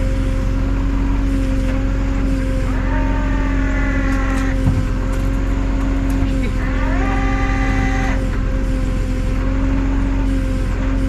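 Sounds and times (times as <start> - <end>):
higher whine: 0.0 - 11.0
steady mechanical whine: 0.0 - 11.0
tow truck engine running: 0.0 - 11.0.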